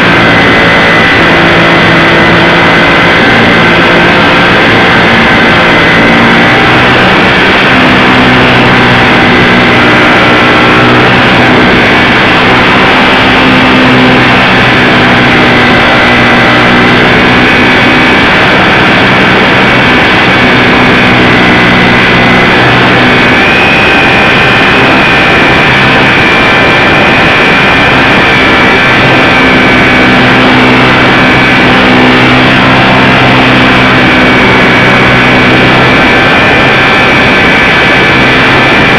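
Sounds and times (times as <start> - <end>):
electric motor and propeller whine: 0.0 - 38.9
rushing noise: 0.0 - 38.9.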